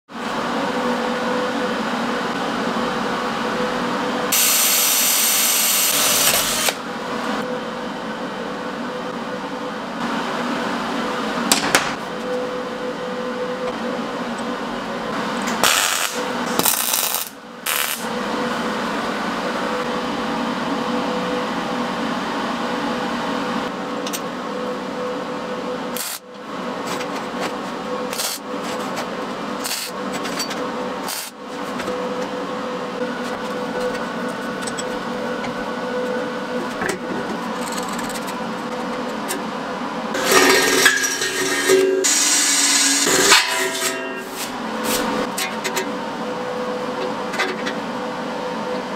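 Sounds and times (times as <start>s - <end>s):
steady machine hum: 0.1s - 48.9s.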